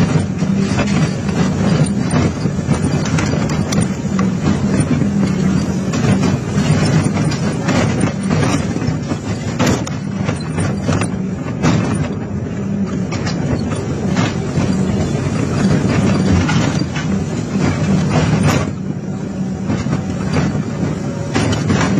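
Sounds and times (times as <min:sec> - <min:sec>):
diesel engine under load: 0:00.0 - 0:21.9.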